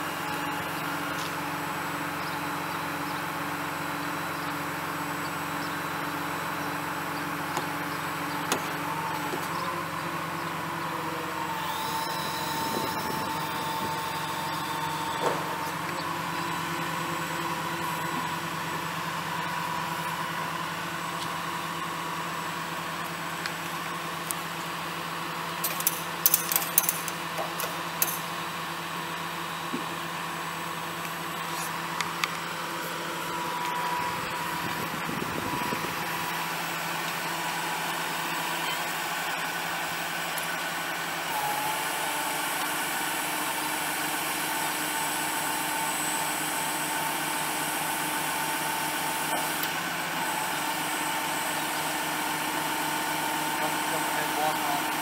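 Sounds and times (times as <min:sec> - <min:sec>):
constant whine: 0:00.0 - 0:55.0
diesel engine running: 0:00.0 - 0:55.0.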